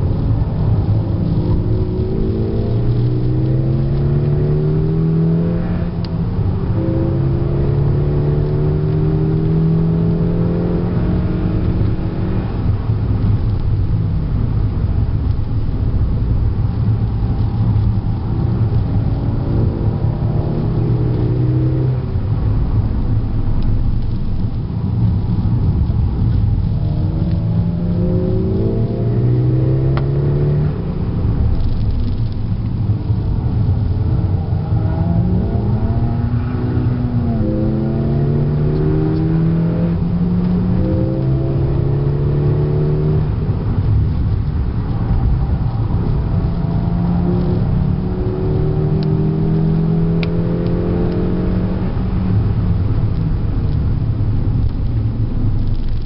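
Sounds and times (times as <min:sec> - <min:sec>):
car engine revving: 0:00.0 - 0:56.0
road and tyre noise: 0:00.0 - 0:56.0.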